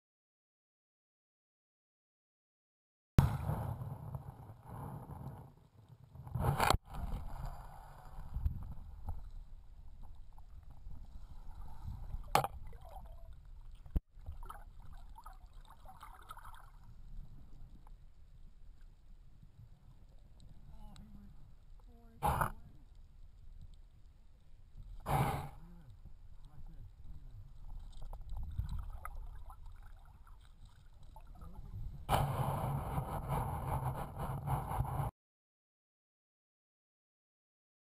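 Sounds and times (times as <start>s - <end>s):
muffled underwater water rumble: 3.2s - 35.1s.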